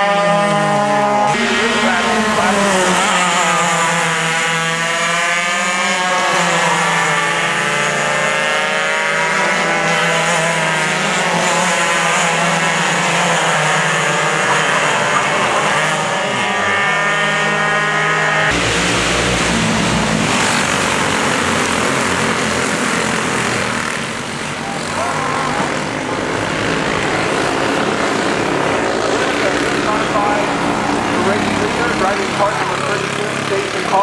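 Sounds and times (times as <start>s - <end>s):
go-kart engines racing: 0.0s - 34.0s.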